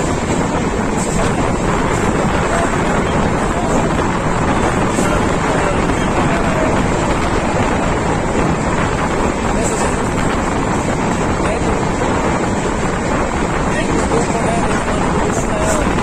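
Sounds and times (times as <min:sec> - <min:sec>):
train running at speed: 0:00.0 - 0:16.0
wind buffeting microphone: 0:00.0 - 0:16.0.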